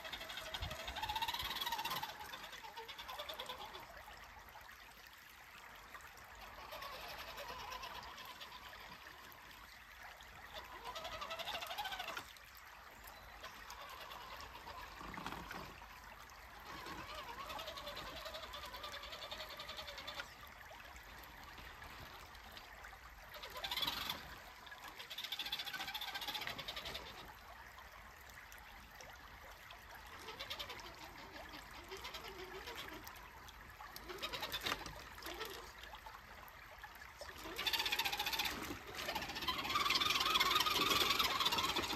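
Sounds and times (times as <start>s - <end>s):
creek water trickling: 0.0s - 41.9s.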